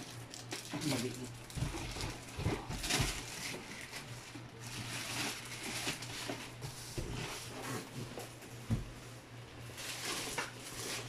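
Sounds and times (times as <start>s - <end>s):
plastic wrapping rustling: 0.0s - 8.6s, 9.5s - 11.0s.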